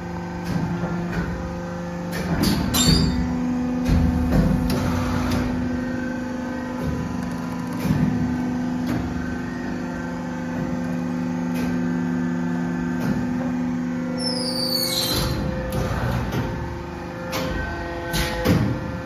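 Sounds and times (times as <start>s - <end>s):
machine electric drone: 0.0s - 19.0s.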